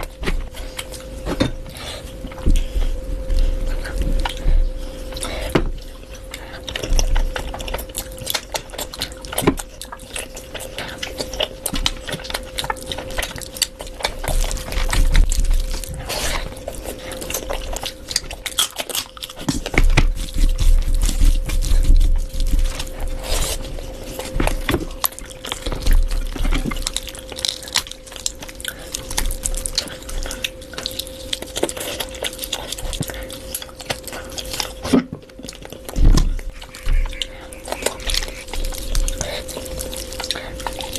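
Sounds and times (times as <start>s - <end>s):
faint steady hum: 0.0s - 40.9s
wet chewing and smacking: 0.0s - 40.9s.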